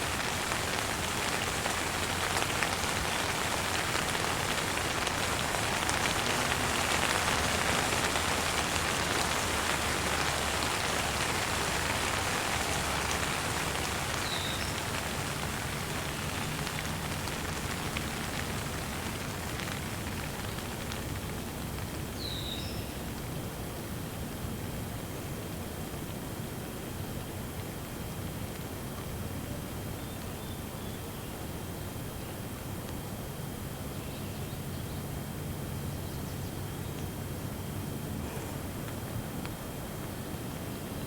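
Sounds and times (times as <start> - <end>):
gentle rain falling: 0.0 - 41.0.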